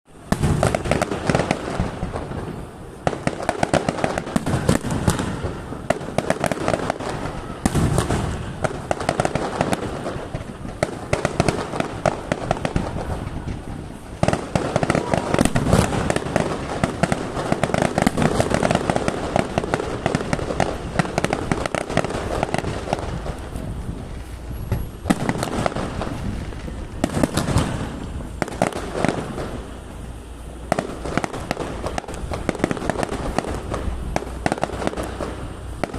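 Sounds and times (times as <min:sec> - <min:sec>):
fireworks bangs and crackling: 0:00.1 - 0:35.9.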